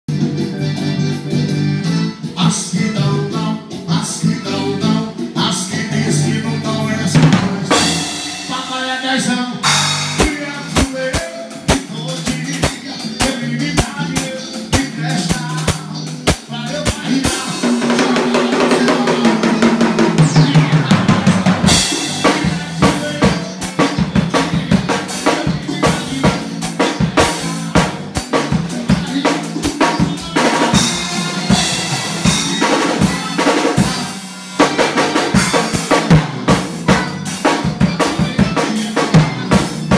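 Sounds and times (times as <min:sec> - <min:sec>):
fast drum kit playing: 0:00.1 - 0:39.9.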